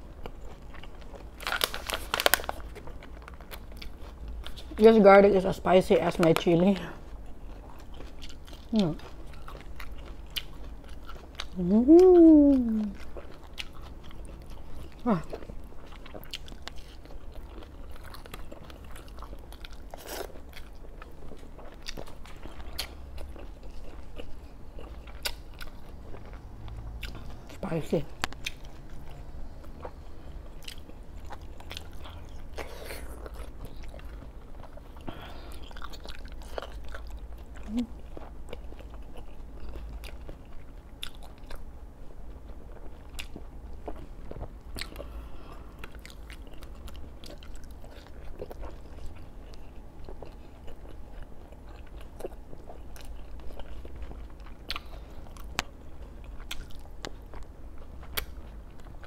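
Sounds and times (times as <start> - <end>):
close-up chewing and biting: 0.0 - 4.8, 6.2 - 27.6, 28.2 - 59.0
steady low hum: 0.0 - 59.0.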